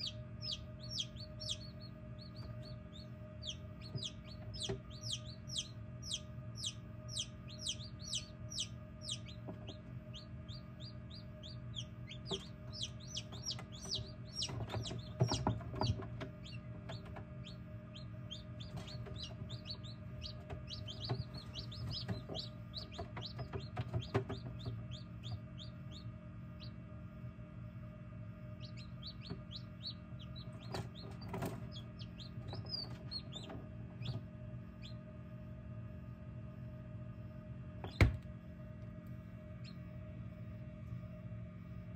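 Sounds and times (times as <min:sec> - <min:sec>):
chicks peeping: 0:00.0 - 0:35.5, 0:37.8 - 0:38.3
steady low hum: 0:00.0 - 0:41.9.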